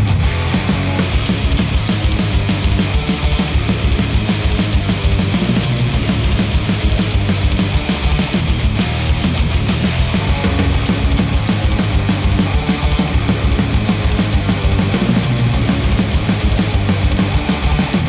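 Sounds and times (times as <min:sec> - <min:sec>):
distorted guitar: 0:00.0 - 0:18.0
fast steady drum beat: 0:00.0 - 0:18.0.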